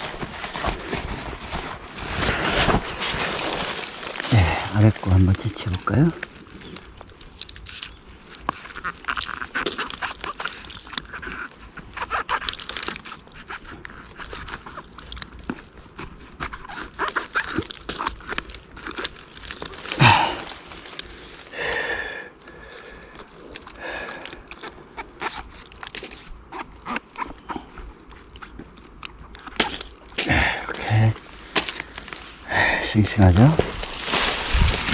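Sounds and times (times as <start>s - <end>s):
mushrooms snapping and rustling: 0.0s - 34.9s.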